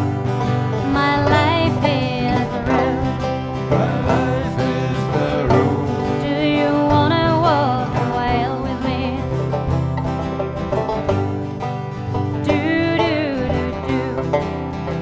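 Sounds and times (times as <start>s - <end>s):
country song with plucked guitar: 0.0s - 15.0s.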